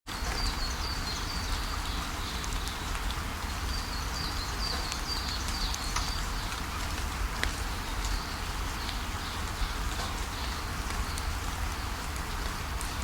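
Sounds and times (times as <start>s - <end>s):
steady rain falling: 0.1s - 13.0s.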